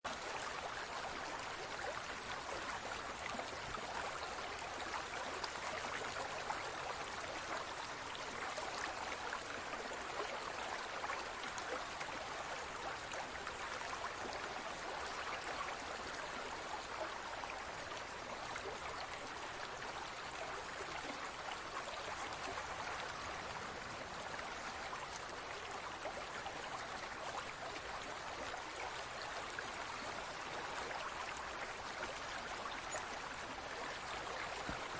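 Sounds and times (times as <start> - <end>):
water trickling and splashing: 0.1 - 34.9.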